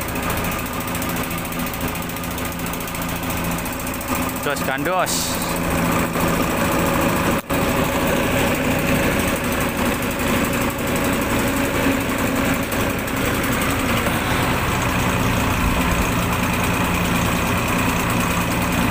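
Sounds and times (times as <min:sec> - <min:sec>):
boat engine running: 0:00.0 - 0:18.9.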